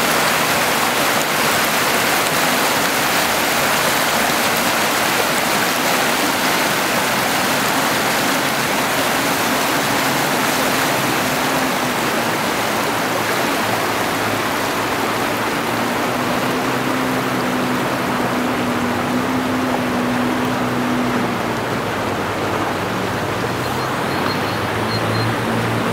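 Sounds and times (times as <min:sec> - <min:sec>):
river rushing over rocks: 0:00.0 - 0:25.9.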